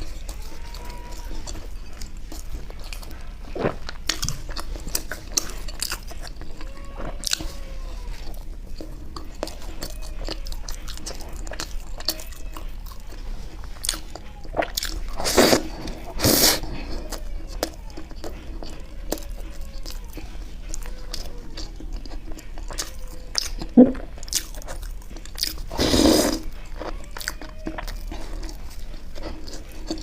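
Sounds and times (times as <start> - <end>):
biting and chewing: 0.0 - 30.0.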